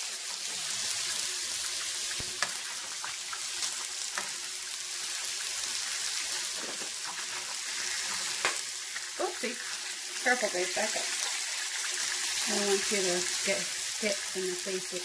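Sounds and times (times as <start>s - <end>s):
patties sizzling in oil: 0.0s - 15.0s.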